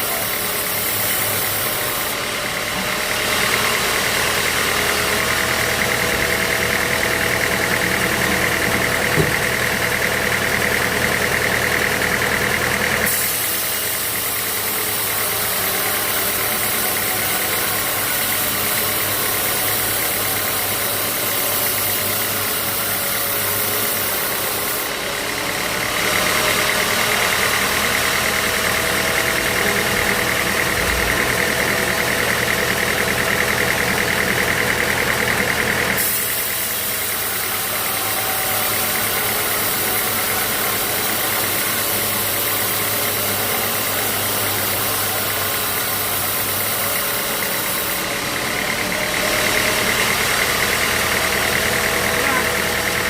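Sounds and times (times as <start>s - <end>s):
sawmill machinery humming: 0.0s - 53.0s.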